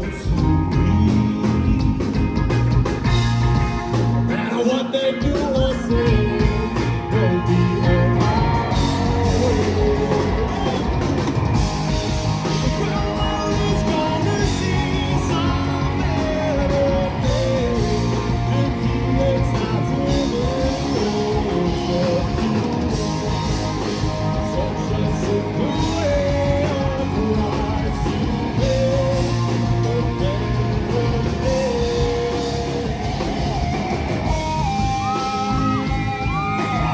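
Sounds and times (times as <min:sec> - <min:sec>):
bass guitar: 0:00.0 - 0:36.9
distorted electric guitars: 0:00.0 - 0:36.9
drum kit: 0:00.0 - 0:36.9
lead guitar line bending: 0:00.0 - 0:36.9.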